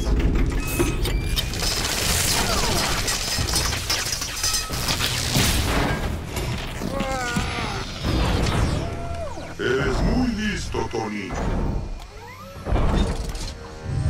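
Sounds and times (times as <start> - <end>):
mechanical whirs and clanks: 0.0 - 14.0.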